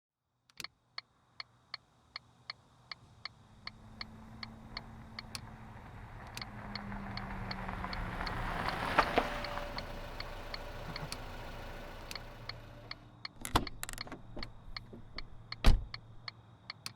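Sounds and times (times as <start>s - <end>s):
engine and road noise: 1.2s - 16.9s
turn signal ticking: 2.1s - 16.9s.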